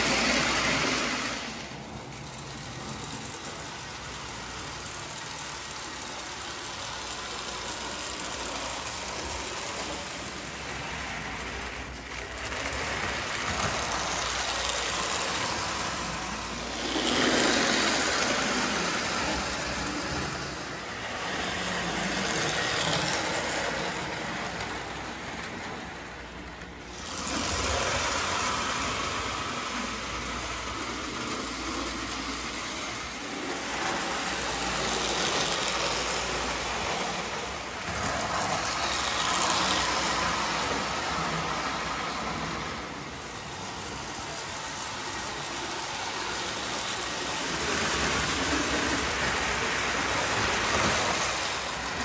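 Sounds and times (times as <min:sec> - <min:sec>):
toy train motor running: 0:00.0 - 0:52.0
wheels clattering on rails: 0:00.0 - 0:52.0.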